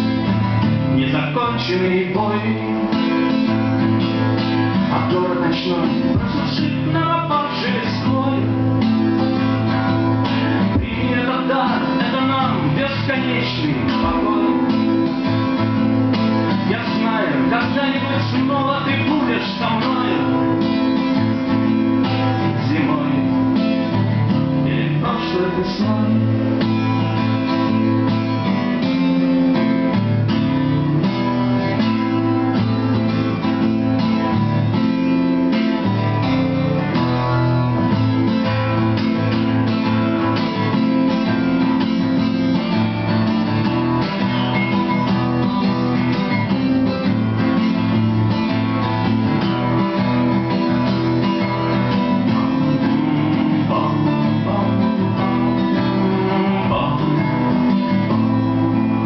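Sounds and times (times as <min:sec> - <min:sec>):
strummed acoustic guitar chords: 0:00.0 - 0:59.0
picked lead guitar solo: 0:02.4 - 0:59.0.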